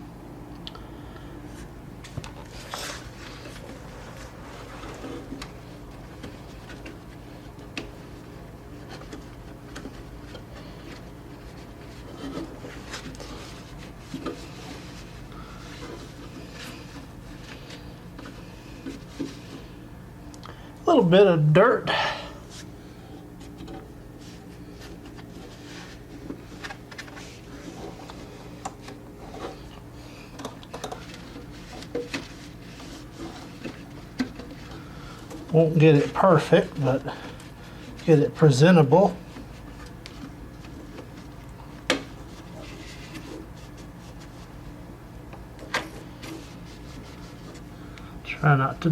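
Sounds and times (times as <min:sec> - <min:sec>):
steady low hum: 0:00.0 - 0:48.9
rubbing and wiping: 0:02.4 - 0:19.8, 0:23.4 - 0:30.2, 0:31.0 - 0:38.4, 0:39.1 - 0:44.8, 0:45.7 - 0:47.8.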